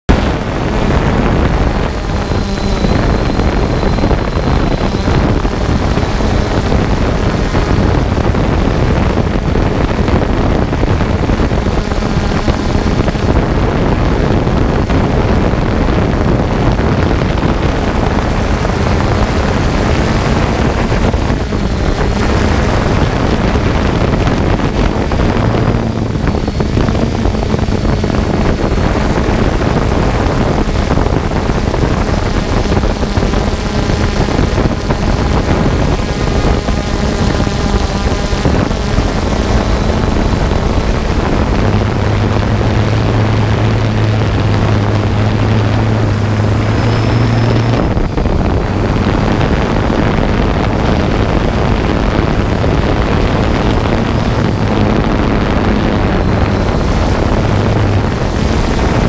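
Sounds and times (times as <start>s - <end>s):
wind on microphone: 0.0s - 59.0s
drone propellers and motors: 0.1s - 59.0s.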